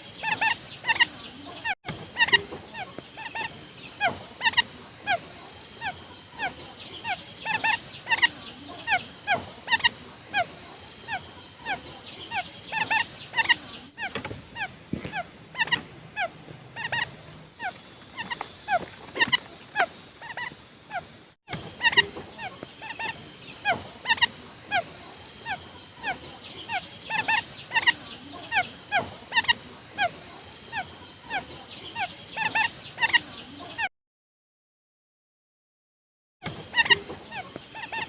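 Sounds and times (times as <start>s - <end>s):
quail chirping: 0.0s - 33.9s, 36.4s - 38.0s.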